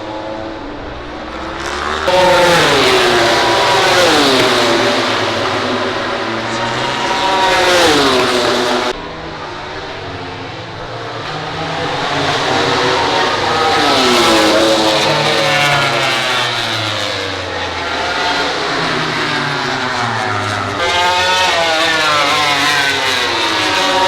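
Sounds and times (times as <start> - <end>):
racing motorcycle engines passing: 0.0 - 24.0.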